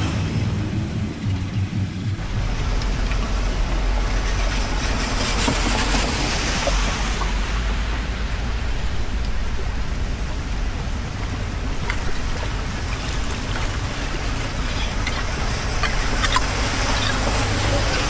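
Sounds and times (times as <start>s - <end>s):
low rumble: 0.0s - 17.4s
floodwater rushing into drain: 0.0s - 18.0s.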